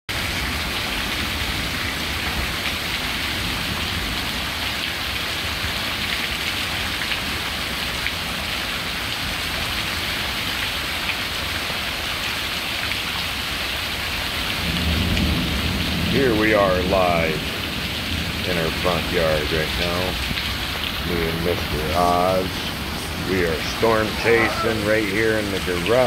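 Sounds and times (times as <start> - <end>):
heavy rain falling: 0.1 - 26.0.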